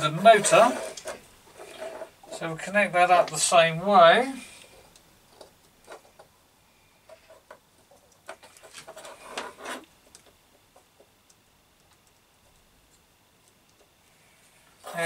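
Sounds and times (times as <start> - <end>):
wires rustling: 0.0 - 15.0.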